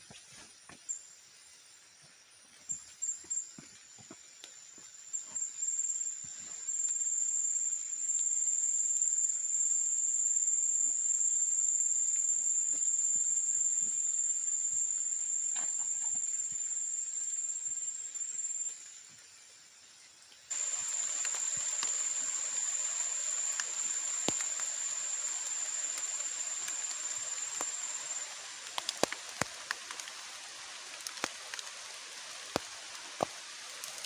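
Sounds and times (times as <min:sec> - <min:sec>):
insect trilling: 0:02.6 - 0:19.4, 0:20.5 - 0:34.0.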